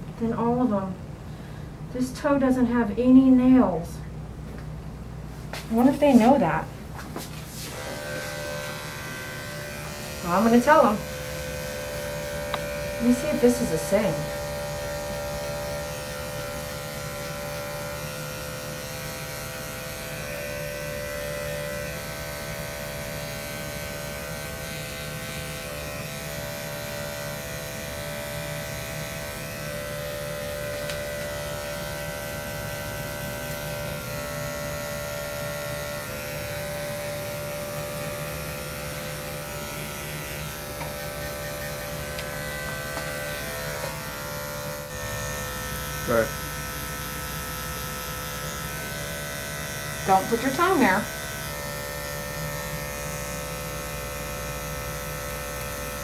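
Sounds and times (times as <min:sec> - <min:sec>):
electric clippers buzzing: 0:05.5 - 0:56.0.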